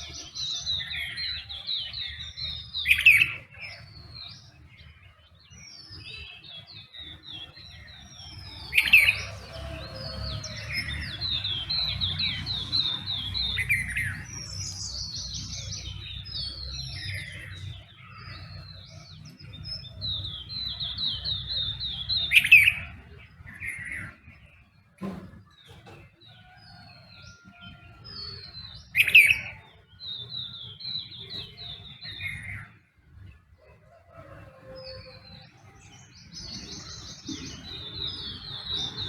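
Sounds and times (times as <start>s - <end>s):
loud sharp bird calls: 0.0s - 39.0s
songbirds chirping and whistling: 0.0s - 39.0s.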